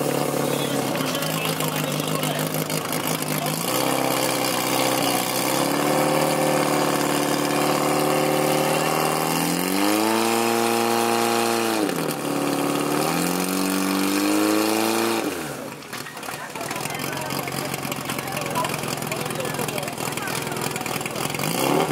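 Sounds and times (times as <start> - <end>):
fire pump engine revving: 0.0 - 21.9.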